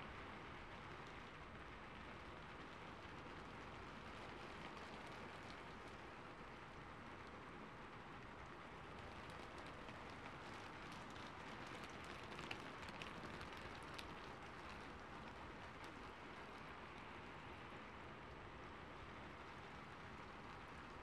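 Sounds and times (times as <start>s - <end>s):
rain hissing on rooftop: 0.0s - 21.0s
raindrops ticking: 0.3s - 21.0s.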